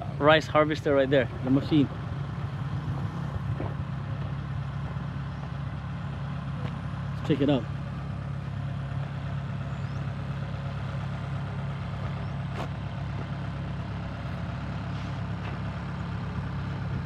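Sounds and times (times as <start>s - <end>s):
harvester engine idling: 0.0s - 17.0s.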